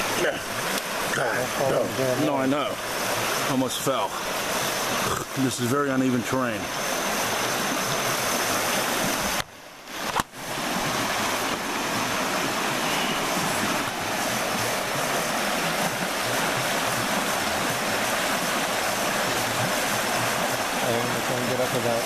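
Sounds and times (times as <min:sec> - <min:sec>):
river rapids rushing: 0:00.0 - 0:22.0.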